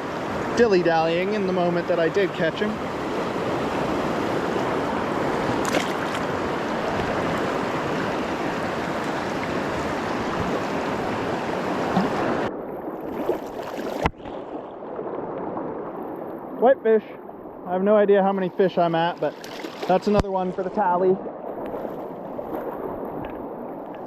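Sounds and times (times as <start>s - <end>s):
river water rushing: 0.0s - 16.6s, 18.5s - 24.0s.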